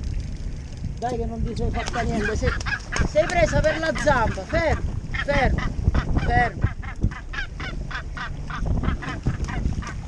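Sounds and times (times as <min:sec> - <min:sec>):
gannet honking: 0:01.8 - 0:10.0.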